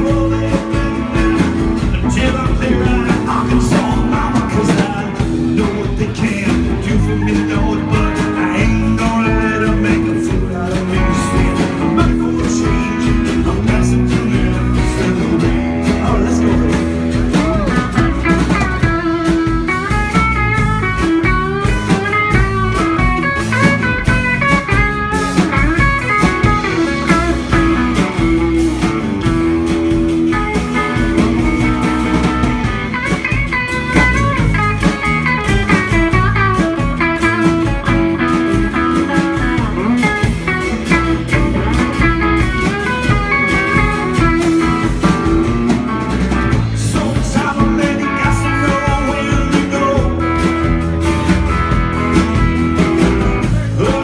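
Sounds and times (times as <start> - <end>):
acoustic guitar: 0.0 - 54.0
drums: 0.0 - 54.0
electric guitars: 0.0 - 54.0.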